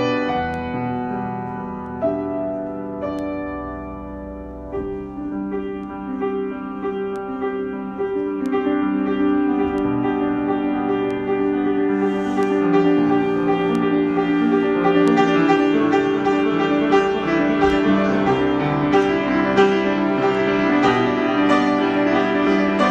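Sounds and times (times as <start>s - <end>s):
solo piano: 0.0s - 22.9s.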